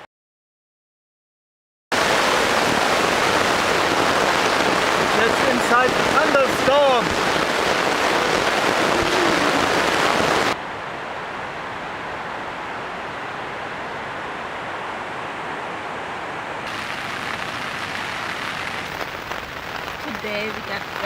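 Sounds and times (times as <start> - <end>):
heavy rain on a tent: 1.9 - 21.0.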